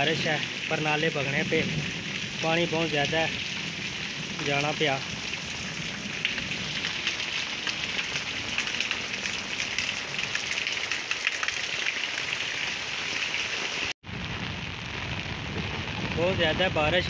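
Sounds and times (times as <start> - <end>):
heavy rain on concrete: 0.0 - 17.0.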